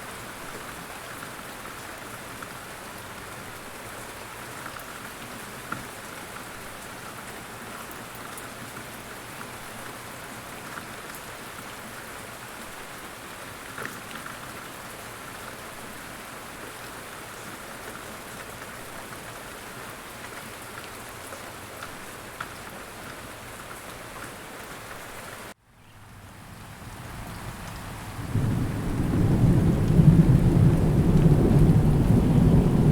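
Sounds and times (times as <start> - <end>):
steady rain hiss: 0.0 - 32.9
louder raindrops: 0.1 - 32.9.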